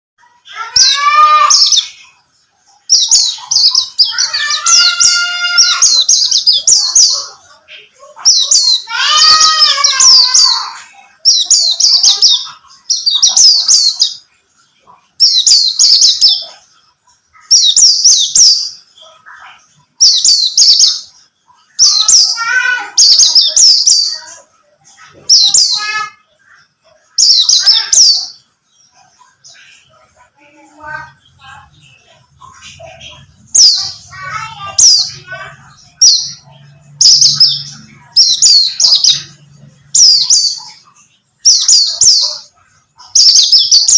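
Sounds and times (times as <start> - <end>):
bird twittering song: 0.2 - 43.9.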